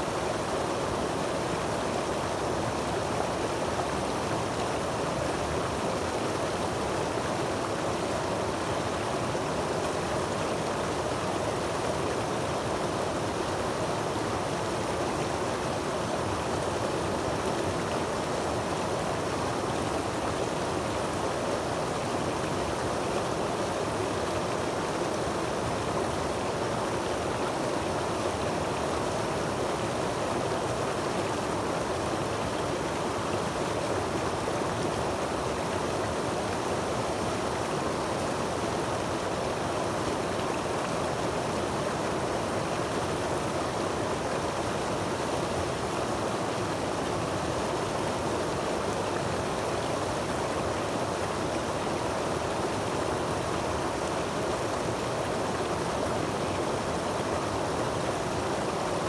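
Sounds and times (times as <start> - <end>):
creek water over rocks: 0.0 - 59.0.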